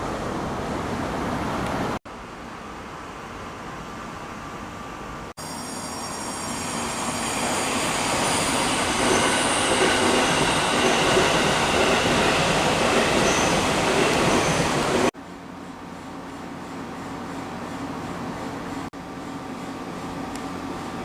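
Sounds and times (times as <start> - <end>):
train running on rails: 3.8 - 21.0.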